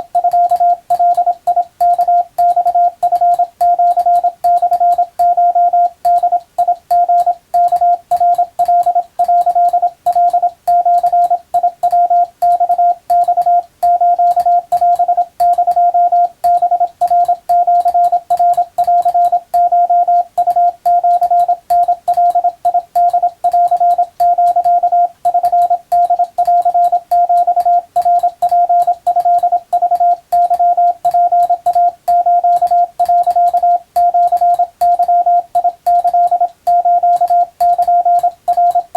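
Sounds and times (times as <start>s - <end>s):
faint keying clicks: 0.0s - 38.9s
morse code beeps: 0.0s - 38.9s.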